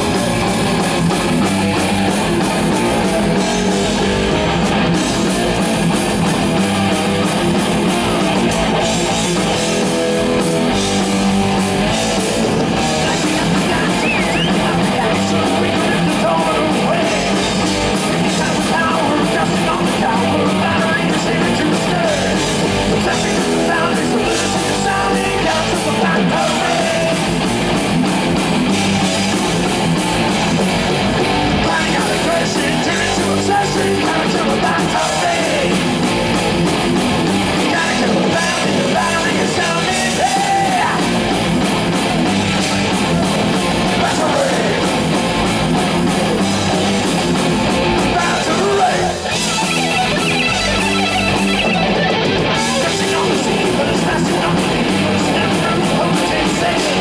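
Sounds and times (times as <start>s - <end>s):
bass guitar: 0.0s - 57.0s
distorted electric guitars: 0.0s - 57.0s
drum kit: 0.0s - 57.0s.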